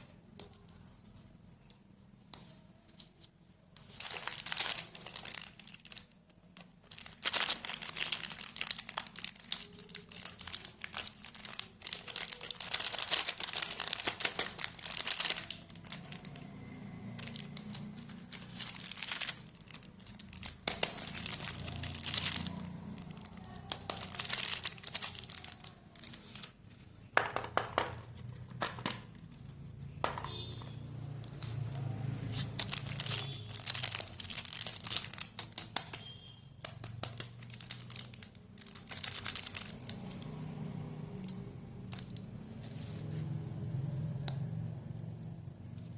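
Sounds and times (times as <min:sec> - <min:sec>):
plastic wrappers crinkling and tearing: 0:00.0 - 0:26.8, 0:30.3 - 0:43.3.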